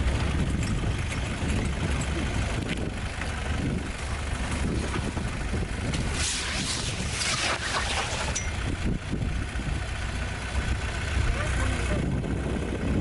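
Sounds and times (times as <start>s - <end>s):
wind rushing over microphone: 0.0s - 10.0s, 10.6s - 13.0s
vehicle engine rumbling: 0.0s - 13.0s.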